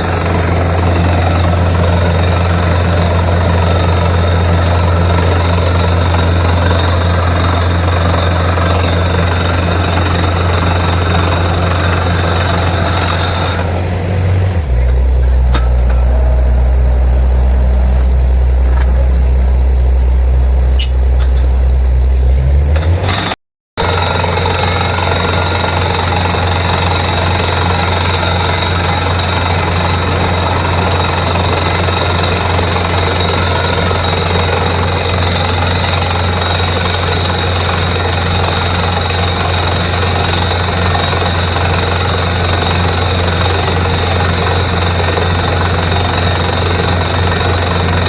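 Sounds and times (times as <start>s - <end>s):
drilling rig droning: 0.0s - 48.0s.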